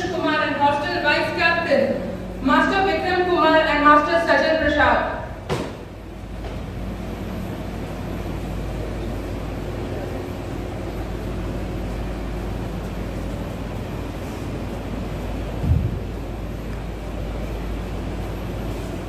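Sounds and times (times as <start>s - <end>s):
faint hum and hiss: 0.0s - 19.0s
low room rumble: 0.0s - 19.0s.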